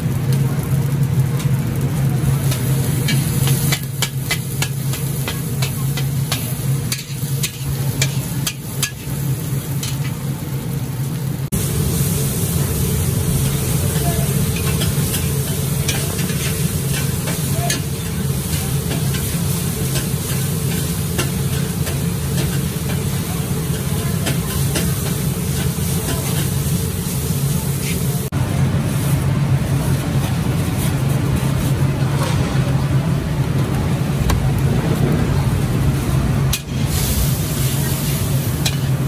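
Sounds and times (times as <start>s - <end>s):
noodles sizzling in a wok: 0.0s - 39.0s.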